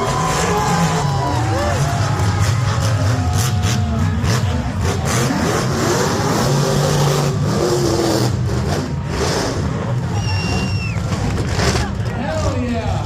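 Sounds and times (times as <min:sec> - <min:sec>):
truck engine revving: 0:00.0 - 0:12.2.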